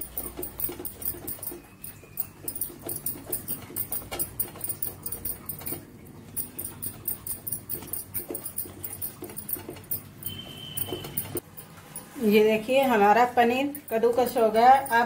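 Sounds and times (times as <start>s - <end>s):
cheese rasping on metal grater: 0.0s - 11.4s, 13.8s - 15.0s.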